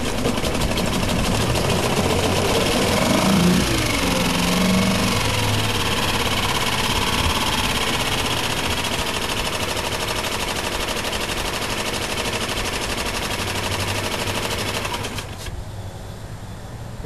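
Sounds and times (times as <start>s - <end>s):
outboard motor running: 0.0s - 15.5s.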